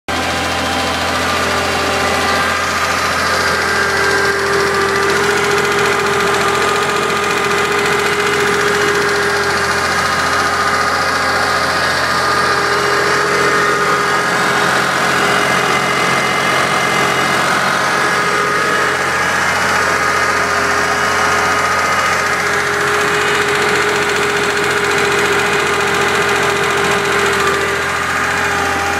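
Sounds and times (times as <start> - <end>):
car engine running: 0.0 - 28.9
engine knocking: 0.1 - 28.9.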